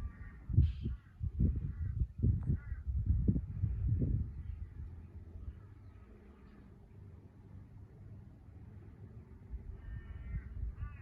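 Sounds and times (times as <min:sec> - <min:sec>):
faint low outdoor rumble: 0:00.0 - 0:11.0.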